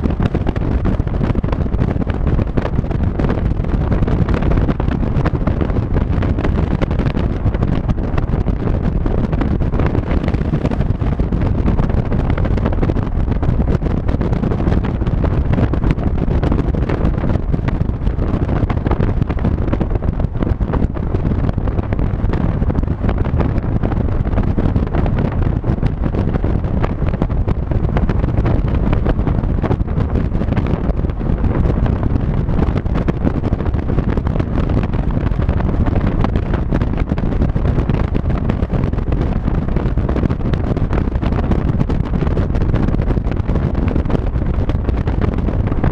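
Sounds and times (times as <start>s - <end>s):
car driving rumble: 0.0s - 45.9s
wind buffeting microphone: 0.0s - 45.9s.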